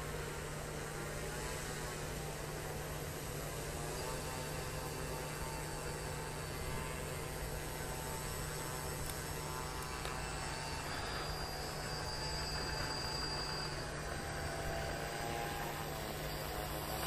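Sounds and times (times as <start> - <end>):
electric motors and propellers humming: 0.0 - 17.0.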